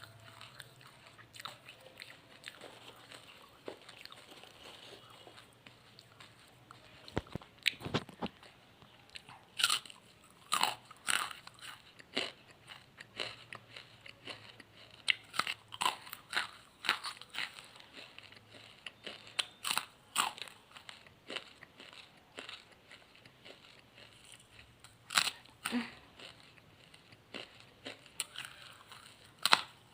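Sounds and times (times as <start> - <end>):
charcoal crunching when chewed: 0.0 - 29.9.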